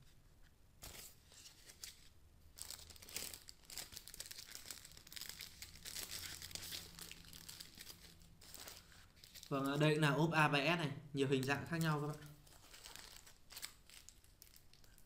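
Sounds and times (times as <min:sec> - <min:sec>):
plastic packaging crinkling: 0:00.8 - 0:10.0, 0:11.4 - 0:15.0.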